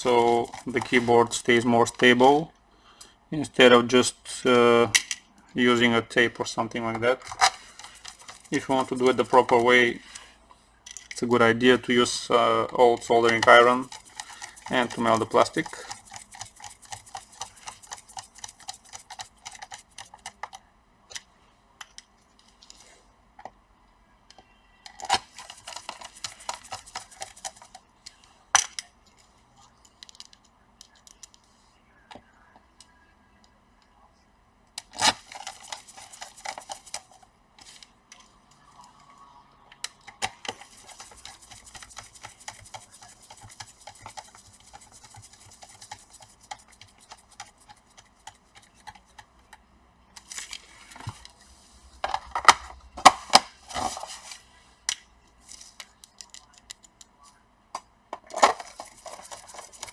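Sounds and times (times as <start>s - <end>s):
plastic parts being handled: 0.0s - 2.2s, 4.5s - 22.9s, 24.8s - 31.4s, 34.8s - 38.3s, 39.8s - 51.4s, 52.0s - 59.9s.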